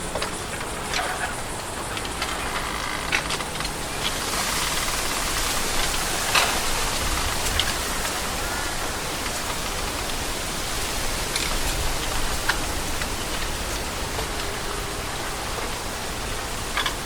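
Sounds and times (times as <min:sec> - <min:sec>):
bamboo leaves rustling in wind: 0:00.0 - 0:17.0.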